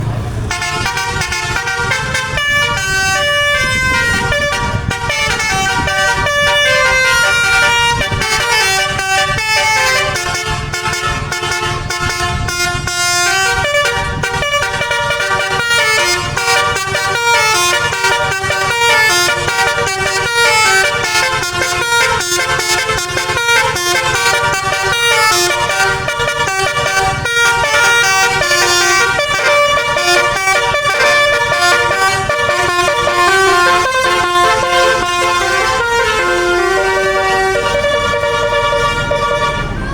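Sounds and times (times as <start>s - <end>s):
musical bus horn melody: 0.4s - 39.9s.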